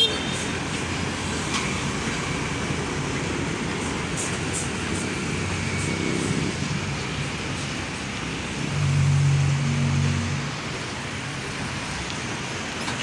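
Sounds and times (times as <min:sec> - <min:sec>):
diesel truck engine: 0:00.0 - 0:13.0
tyre and road noise: 0:00.0 - 0:13.0.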